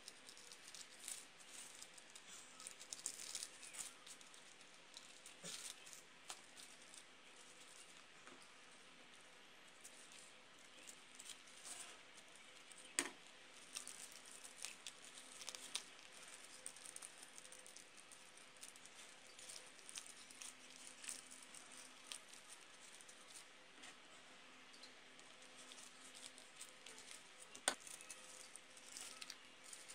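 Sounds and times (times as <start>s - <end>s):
tissue paper crinkling: 0.0s - 8.2s, 9.7s - 23.5s, 25.2s - 29.9s.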